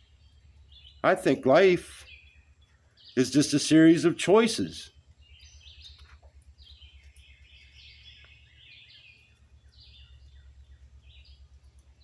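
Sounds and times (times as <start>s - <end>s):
faint birds chirping: 0.0s - 12.0s
low steady hum: 0.0s - 12.0s.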